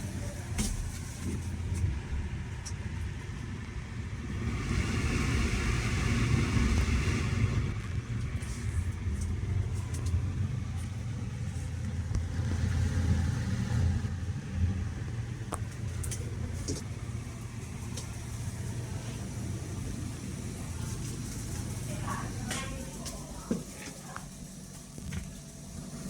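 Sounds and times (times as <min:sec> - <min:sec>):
exhaust fan humming: 0:00.0 - 0:26.0.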